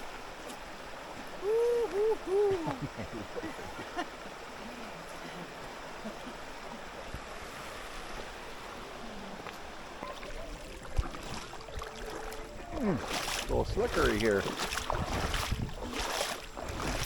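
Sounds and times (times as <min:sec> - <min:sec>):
waterfall and river rushing: 0:00.0 - 0:17.0.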